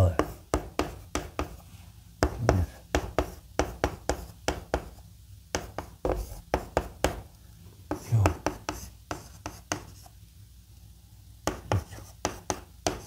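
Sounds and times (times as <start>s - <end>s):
chalk tapping on a blackboard: 0.0s - 1.6s, 2.2s - 7.3s, 7.9s - 10.1s, 11.4s - 13.0s.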